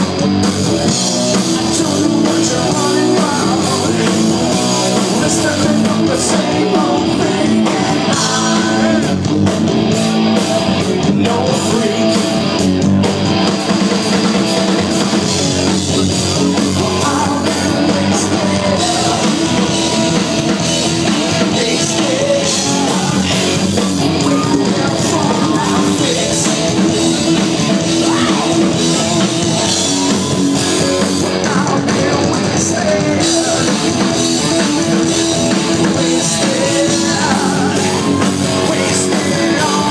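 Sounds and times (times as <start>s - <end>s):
drum kit: 0.0s - 39.9s
electric guitar: 0.0s - 39.9s
person singing: 1.3s - 9.8s, 10.7s - 12.4s, 15.8s - 20.5s, 21.2s - 39.9s.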